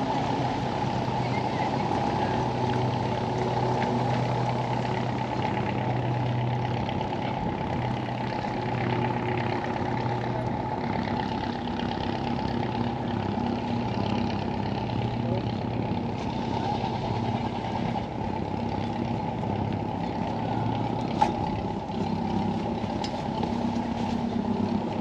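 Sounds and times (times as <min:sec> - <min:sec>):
engine humming: 0:00.0 - 0:25.0
outdoor background noise: 0:00.0 - 0:25.0.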